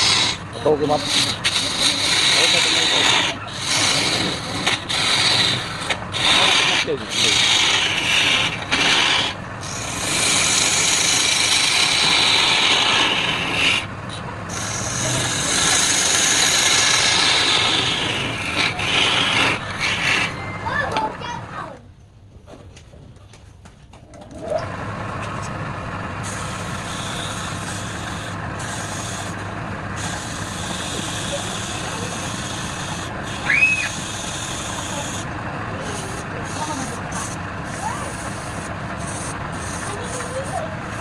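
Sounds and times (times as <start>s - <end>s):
wood lathe scraping hiss: 0.0s - 21.0s, 26.2s - 41.0s.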